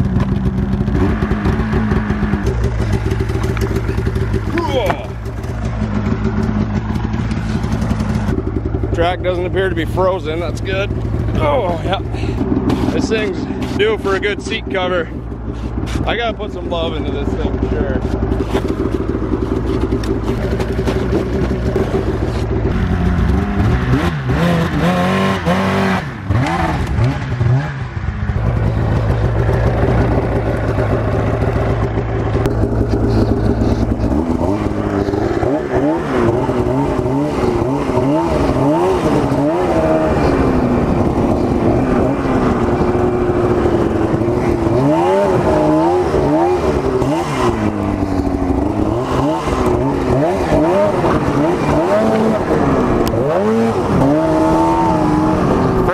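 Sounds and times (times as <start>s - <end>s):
snowmobile engine idling and revving: 0.0s - 55.9s.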